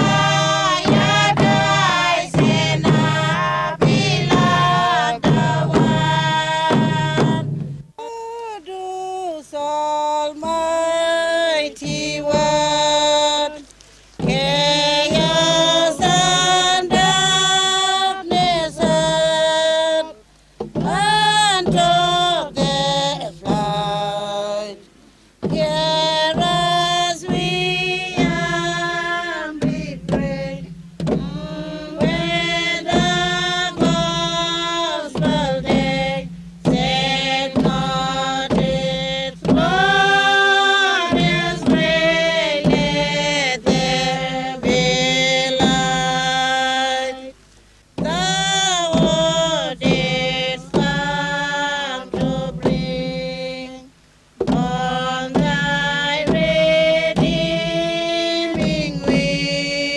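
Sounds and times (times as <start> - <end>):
group singing a chant in unison: 0.0 - 7.8, 10.1 - 13.6, 14.2 - 24.8, 25.4 - 47.4, 48.0 - 59.9.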